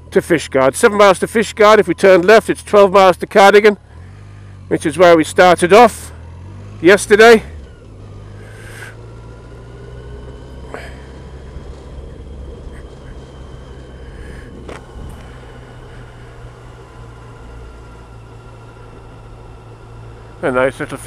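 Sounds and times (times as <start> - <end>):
motorcycle engine low rumble: 0.0 - 21.0
wind and road noise: 0.0 - 21.0.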